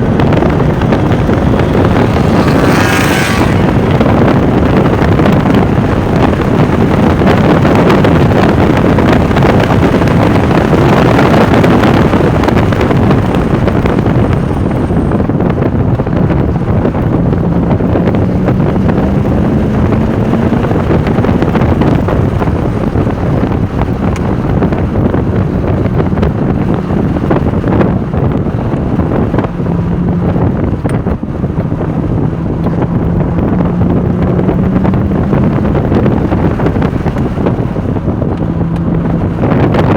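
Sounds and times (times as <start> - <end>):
car engine running hard: 0.0 - 39.9
wind noise on microphone: 0.0 - 39.9.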